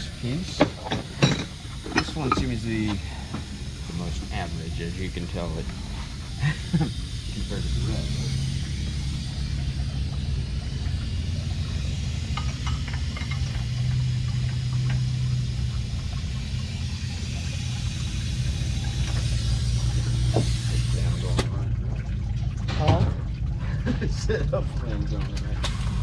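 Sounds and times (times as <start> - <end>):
motor humming: 0.0 - 21.8.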